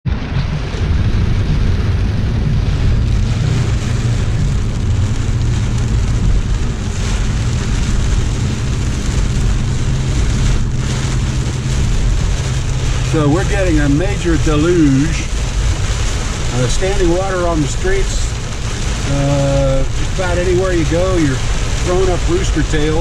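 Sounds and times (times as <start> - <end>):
car driving on wet road: 0.0 - 23.0
heavy rain on car roof: 0.1 - 23.0.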